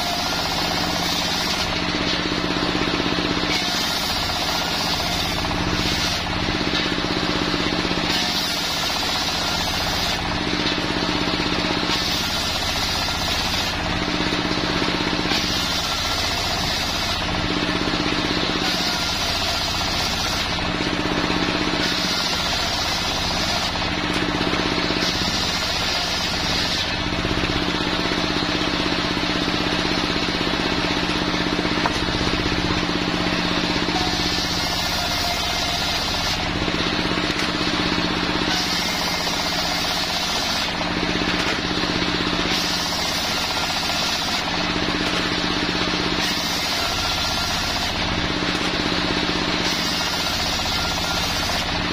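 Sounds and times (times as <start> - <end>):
circular saw ripping wood: 0.0 - 51.9
engine running steadily: 0.0 - 51.9.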